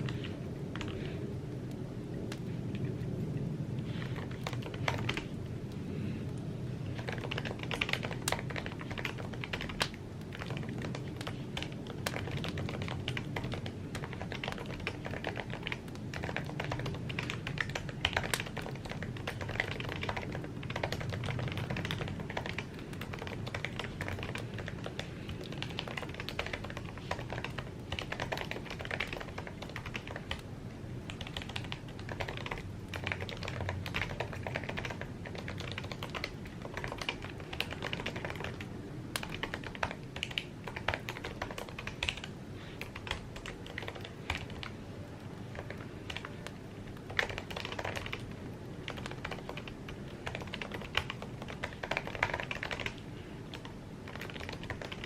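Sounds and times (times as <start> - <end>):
keyboard typing: 0.0 - 1.1, 2.2 - 55.0
low background rumble: 0.0 - 55.0.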